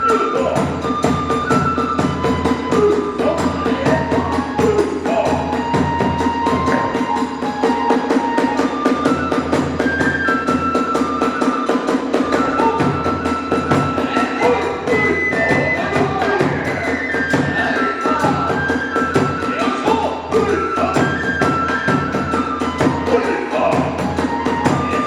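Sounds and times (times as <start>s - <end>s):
taiko drums beating: 0.0s - 25.0s
transverse flute melody: 0.0s - 25.0s.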